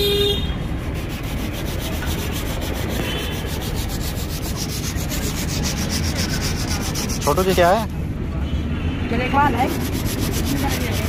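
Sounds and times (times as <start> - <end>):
sanding scraping with fast pulse: 0.5 - 7.9, 9.5 - 11.0.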